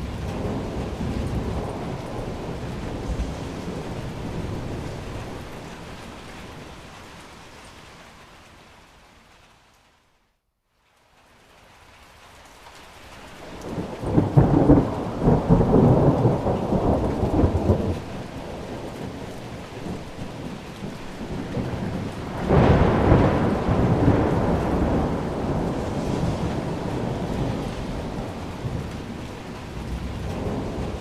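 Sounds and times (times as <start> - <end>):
thunder rumbling: 0.0 - 7.3, 13.4 - 31.0
steady rain: 0.0 - 31.0.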